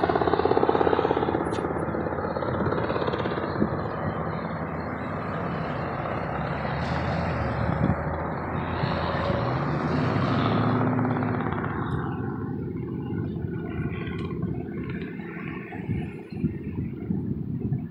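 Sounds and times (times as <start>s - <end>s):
steady engine noise: 0.0s - 17.9s.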